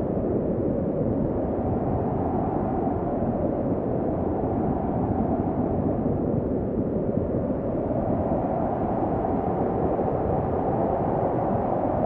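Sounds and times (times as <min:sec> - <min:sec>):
deep steady wind: 0:00.0 - 0:12.0.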